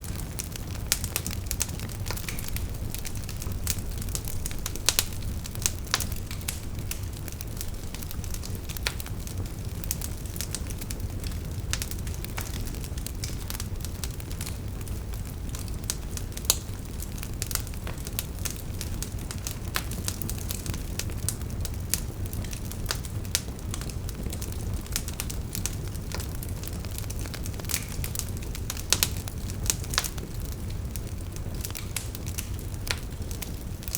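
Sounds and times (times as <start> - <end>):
burning wood crackling and popping: 0.0 - 33.9
low rumble of flame: 0.0 - 33.9.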